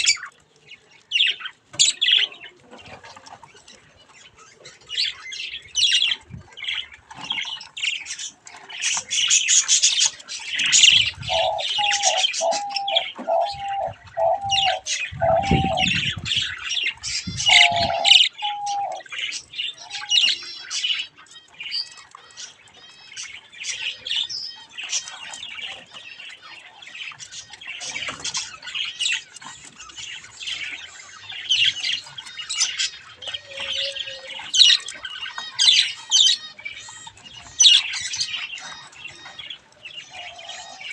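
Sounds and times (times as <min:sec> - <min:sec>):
budgerigars chattering: 0:04.2 - 0:40.9.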